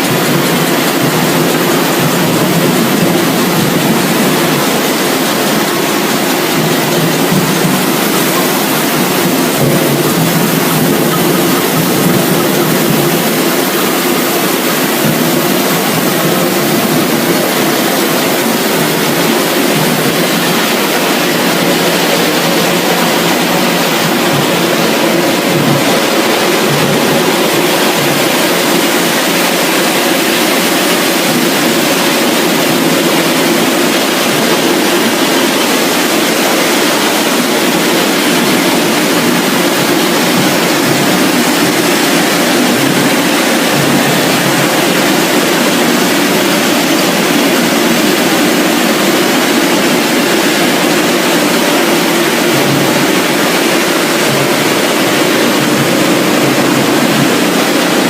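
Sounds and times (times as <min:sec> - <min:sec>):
food-processing machinery running: 0:00.0 - 0:58.0.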